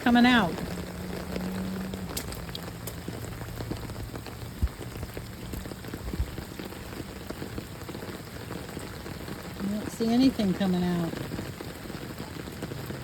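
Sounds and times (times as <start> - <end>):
heavy rain: 0.0 - 13.0
raindrops ticking: 0.0 - 13.0.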